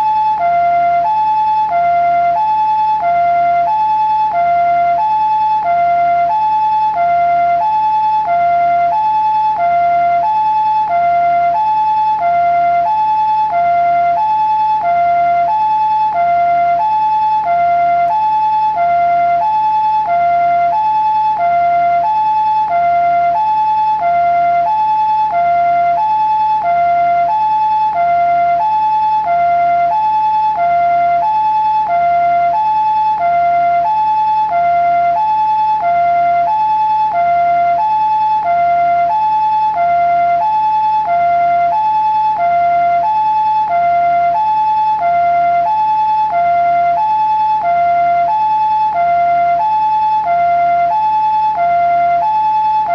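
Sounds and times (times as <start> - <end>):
two-tone ambulance siren: 0.0 - 52.9.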